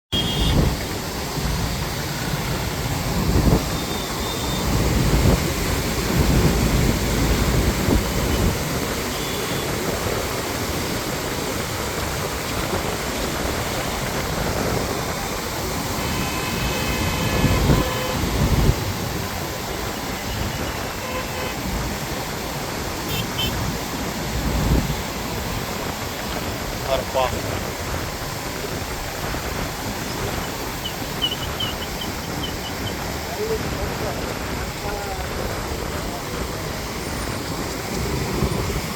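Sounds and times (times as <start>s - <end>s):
river rushing: 0.2s - 38.9s
wind buffeting microphone: 0.5s - 9.1s, 9.7s - 21.0s, 27.4s - 38.9s.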